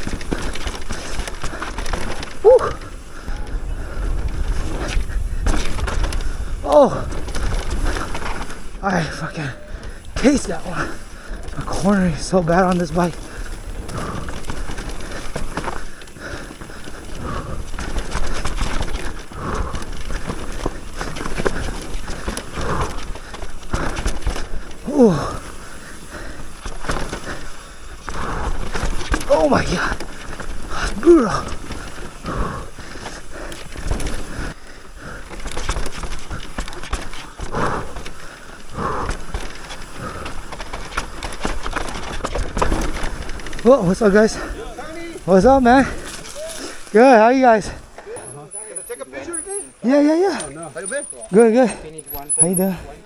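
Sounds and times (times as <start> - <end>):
bike knocks and rattles: 0.0 - 53.0
bike tyres on dirt: 0.0 - 53.0.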